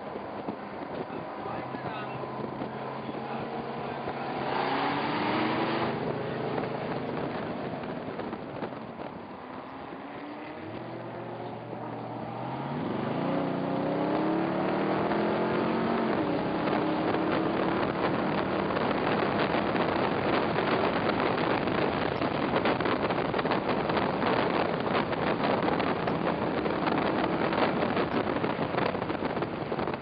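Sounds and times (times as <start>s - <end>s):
racing car engine: 0.0s - 29.9s
wind buffeting microphone: 0.0s - 30.0s.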